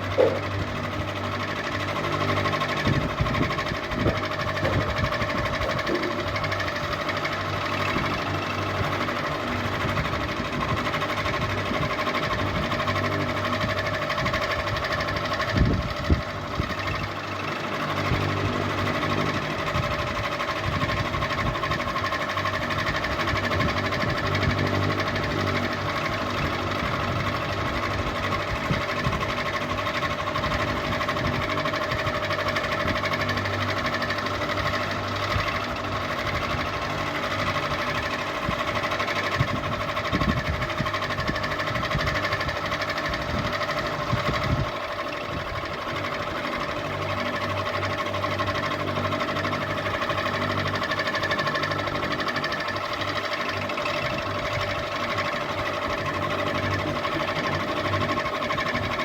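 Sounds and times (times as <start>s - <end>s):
ceiling fan humming: 0.0s - 59.0s.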